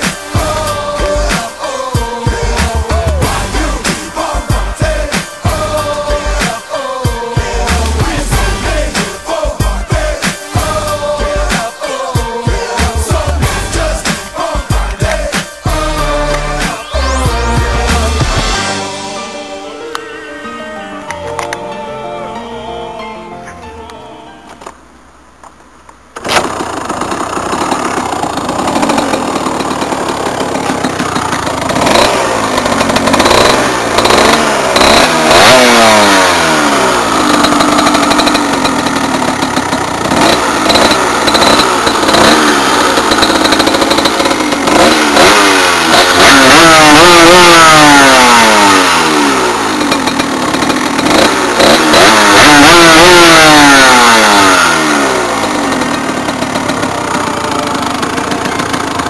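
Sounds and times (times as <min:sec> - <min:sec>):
two-stroke engine revving: 0:00.0 - 0:18.8, 0:26.2 - 0:59.0.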